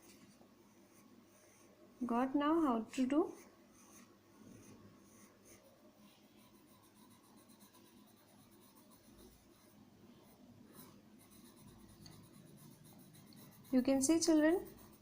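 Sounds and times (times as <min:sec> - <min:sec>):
pencil scratching on paper: 0:00.0 - 0:01.8, 0:03.2 - 0:15.0.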